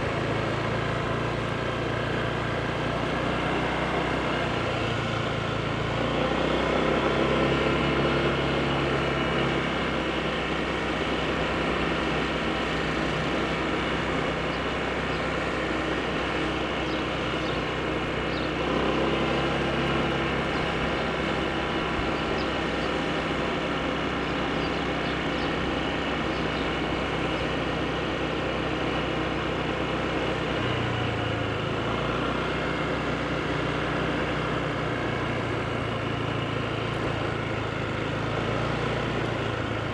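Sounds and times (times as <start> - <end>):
scooter engine running: 0.0 - 39.9
wind and road noise: 0.0 - 39.9.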